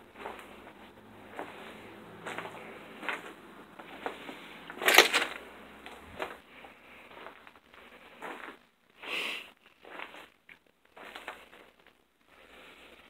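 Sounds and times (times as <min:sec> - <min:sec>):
footsteps crunching over debris: 0:00.1 - 0:08.7, 0:09.7 - 0:12.0.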